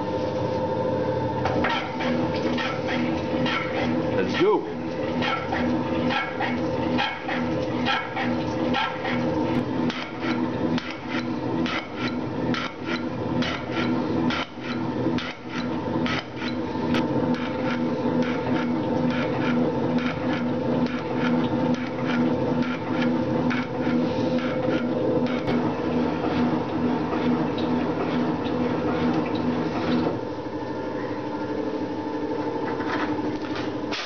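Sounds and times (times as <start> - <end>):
metal shaper machine hum: 1.4 - 30.3.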